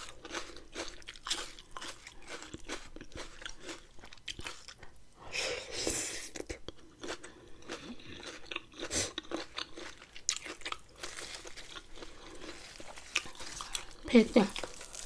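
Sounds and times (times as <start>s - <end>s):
chewing and crunching food: 0.0s - 5.1s, 6.3s - 15.0s.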